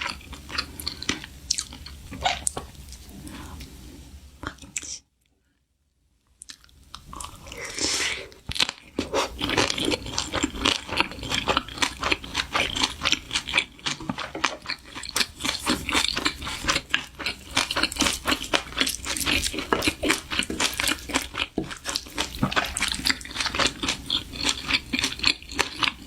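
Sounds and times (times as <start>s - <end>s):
crunchy chewing of food: 0.0s - 3.2s, 6.4s - 26.0s.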